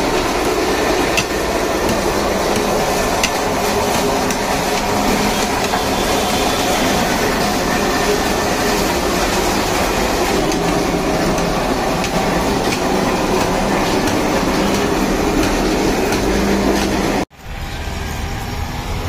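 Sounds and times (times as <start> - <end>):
pulping machine clatter and hum: 0.0 - 19.0.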